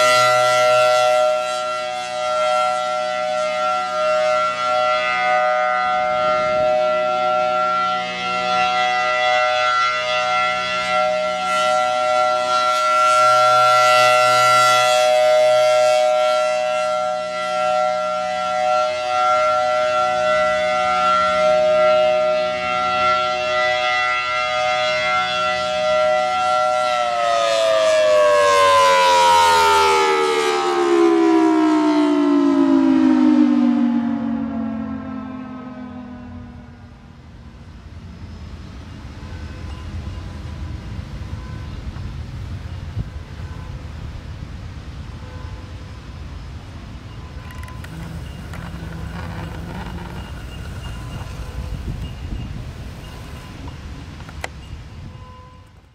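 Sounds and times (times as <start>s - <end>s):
rotating warning siren: 0.0s - 55.9s.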